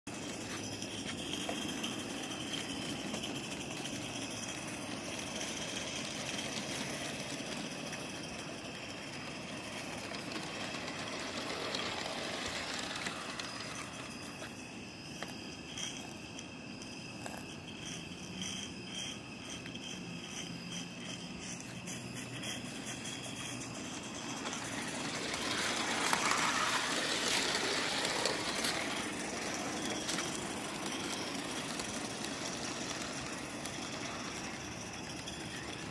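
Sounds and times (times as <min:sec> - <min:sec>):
wheels rattling on rails: 0:00.0 - 0:35.9
steam locomotive running: 0:00.1 - 0:35.9.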